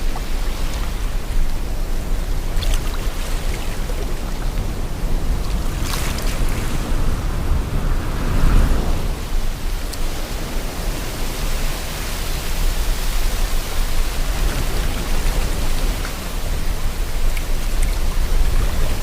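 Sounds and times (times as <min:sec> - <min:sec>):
sea waves washing: 0:00.0 - 0:19.0
wind: 0:00.0 - 0:19.0.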